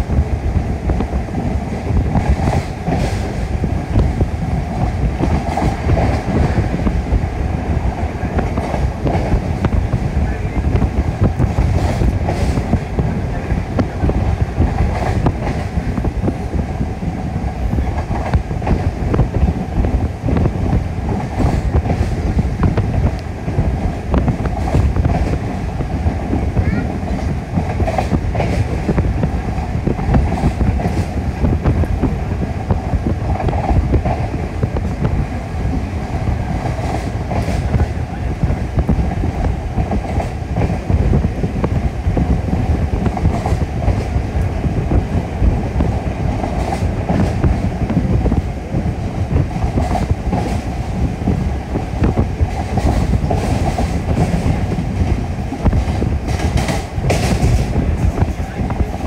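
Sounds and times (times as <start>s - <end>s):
clickety-clack of rail joints: 0.0s - 59.0s
train wheels rumbling on rails: 0.0s - 59.0s.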